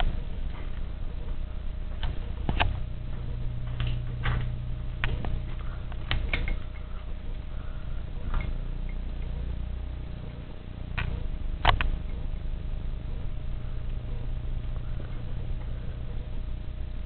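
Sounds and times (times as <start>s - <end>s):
louder low hum: 0.0s - 17.0s
steady low hum: 0.0s - 17.0s.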